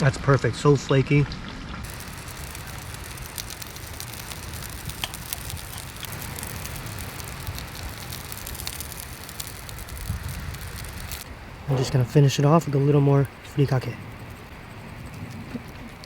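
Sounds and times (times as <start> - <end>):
hot oil sizzling and crackling: 1.7 - 16.0.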